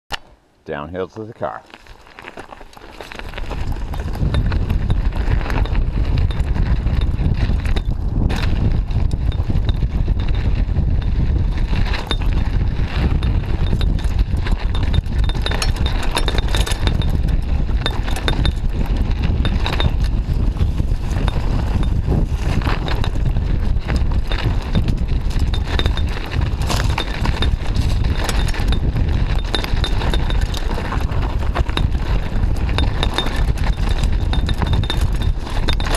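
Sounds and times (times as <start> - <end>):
bike rattling over bumps: 1.7 - 35.9
wind rumbling on microphone: 1.8 - 35.9.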